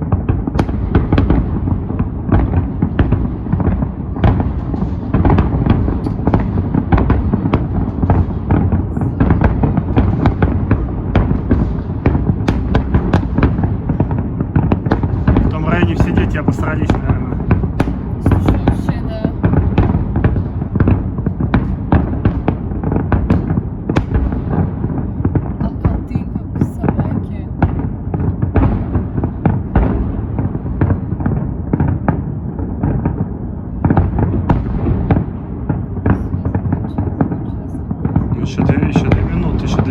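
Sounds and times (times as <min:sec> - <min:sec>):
fireworks bangs and crackles: 0:00.0 - 0:39.9
low booming rumble: 0:00.0 - 0:39.9.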